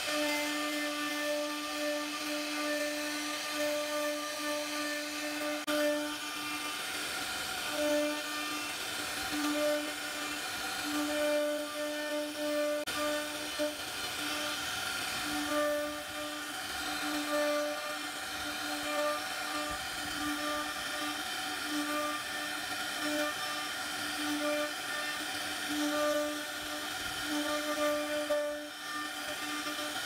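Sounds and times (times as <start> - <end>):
router spindle whining: 0.0 - 30.0.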